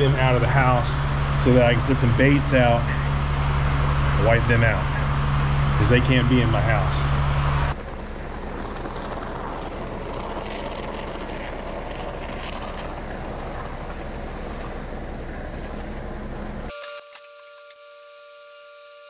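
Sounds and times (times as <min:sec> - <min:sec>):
machine drone with hiss: 0:00.0 - 0:11.4, 0:12.1 - 0:19.0.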